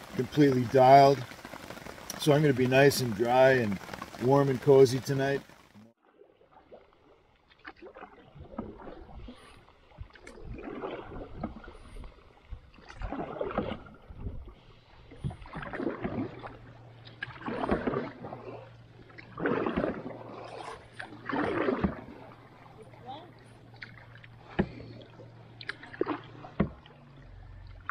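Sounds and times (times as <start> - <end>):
paddle swishing through water: 0.0 - 27.9.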